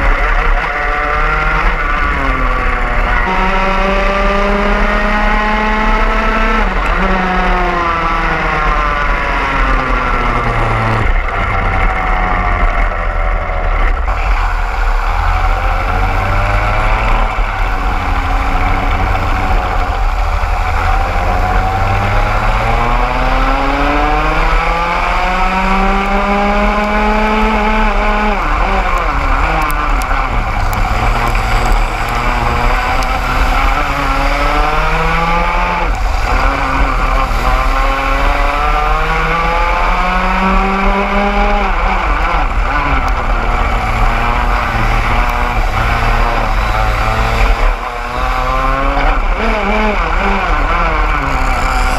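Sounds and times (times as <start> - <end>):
kart engine revving: 0.0 - 51.9
other kart engines: 0.0 - 51.9.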